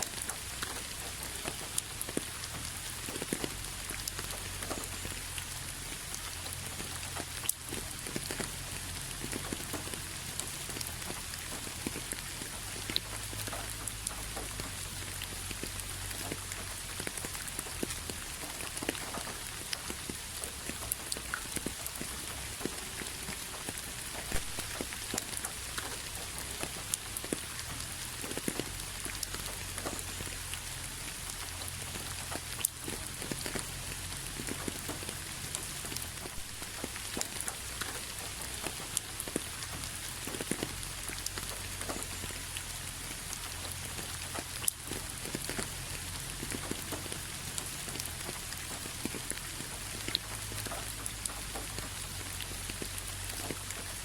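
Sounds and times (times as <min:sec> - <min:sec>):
rain drops on hard surface: 0:00.0 - 0:54.0.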